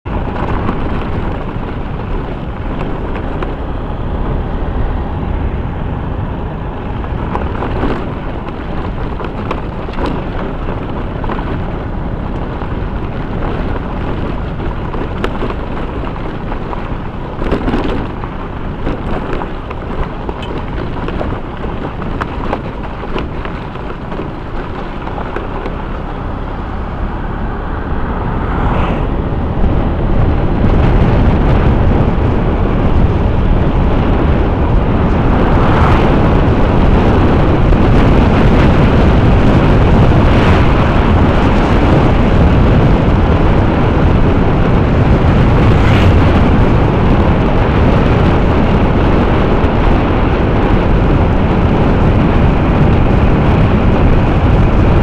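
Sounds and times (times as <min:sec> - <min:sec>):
tyre and wind noise: 0:00.0 - 0:55.0
vehicle driving on gravel: 0:00.0 - 0:55.0.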